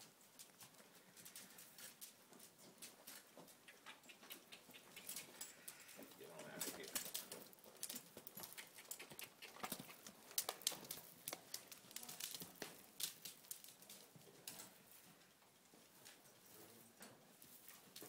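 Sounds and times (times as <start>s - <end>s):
hoofbeats on soft dirt: 0.0s - 18.0s.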